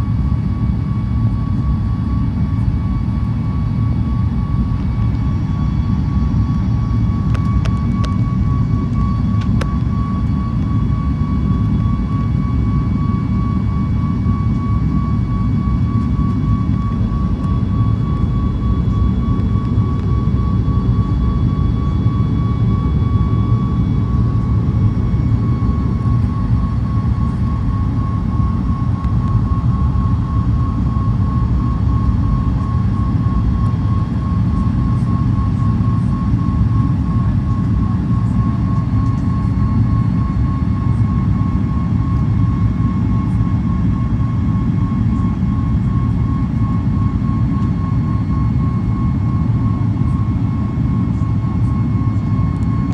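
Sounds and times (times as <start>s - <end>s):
jet engine whine: 0.0s - 52.9s
loud low cabin rumble: 0.0s - 52.9s.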